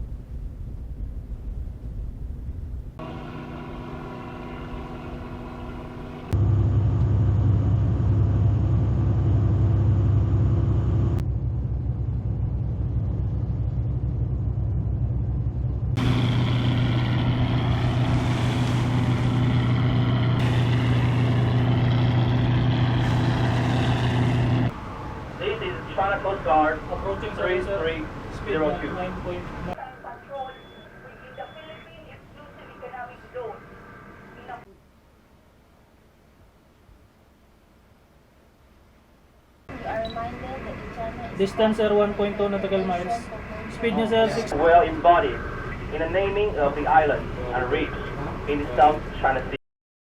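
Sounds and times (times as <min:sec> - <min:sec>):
ship engines droning: 0:03.0 - 0:34.7, 0:39.7 - 0:49.6.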